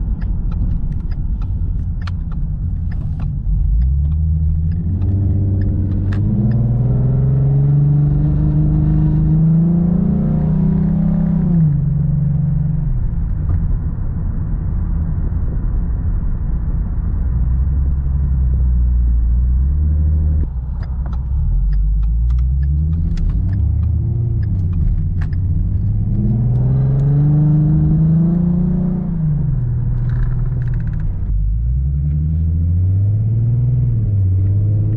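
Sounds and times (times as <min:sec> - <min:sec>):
car engine revving: 0:00.0 - 0:13.5, 0:17.5 - 0:34.9.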